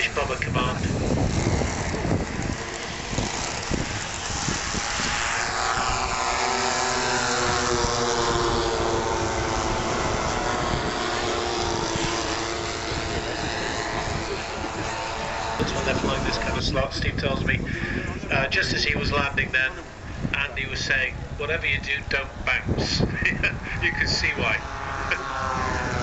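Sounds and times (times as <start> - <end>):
model aircraft engines running: 0.0 - 26.0.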